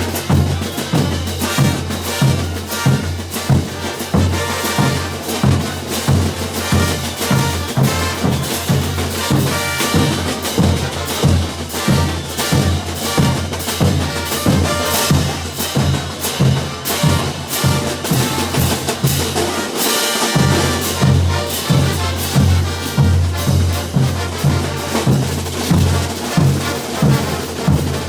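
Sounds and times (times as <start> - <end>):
bass drum and snare beat: 0.0 - 28.0
brass band playing: 0.0 - 28.0.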